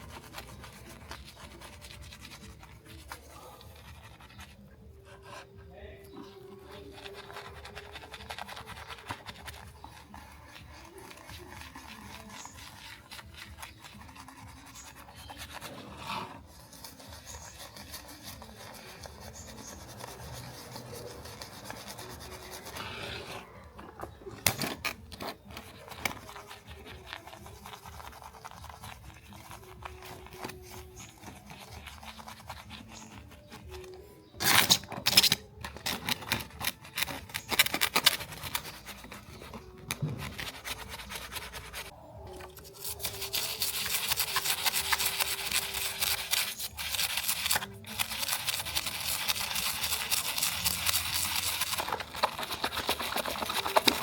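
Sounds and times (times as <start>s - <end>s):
scraping on toy car: 0.0s - 54.0s.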